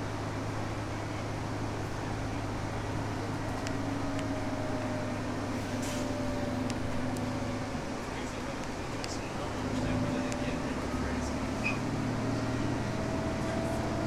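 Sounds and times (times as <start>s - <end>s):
bus engine drone with whine: 0.0s - 14.0s.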